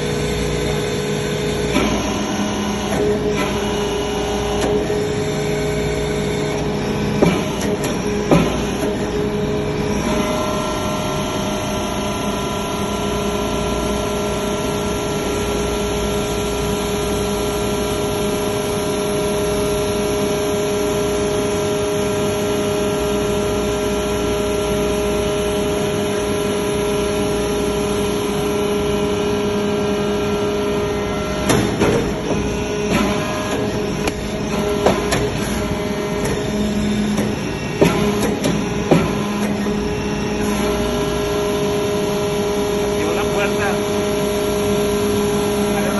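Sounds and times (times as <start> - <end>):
baler machine drone: 0.0 - 45.9
held machine whine: 0.0 - 45.9.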